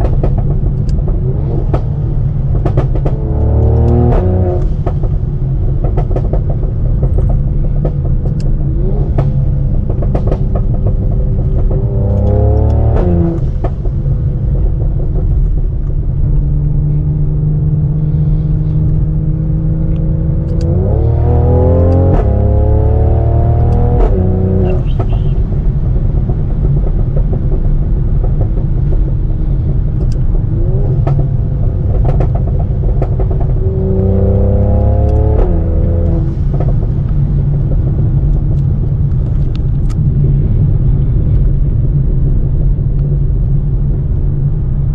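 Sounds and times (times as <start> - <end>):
car engine accelerating through gears: 0.0 - 44.9
exhaust crackles and pops: 0.0 - 44.9.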